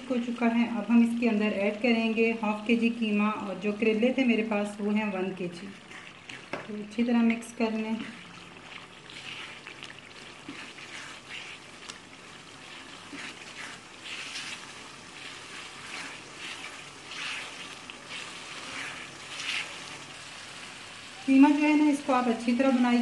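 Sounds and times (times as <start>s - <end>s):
meat sizzling in oil: 0.0s - 23.0s
spatula stirring in a pan: 0.0s - 23.0s.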